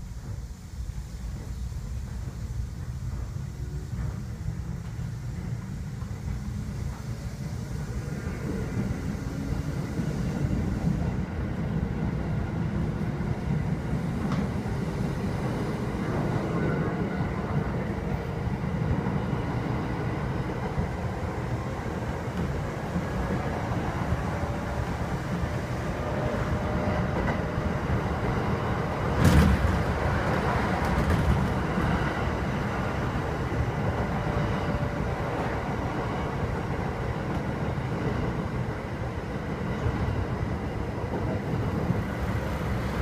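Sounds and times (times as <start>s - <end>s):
train wheels rumbling: 0.0s - 43.0s.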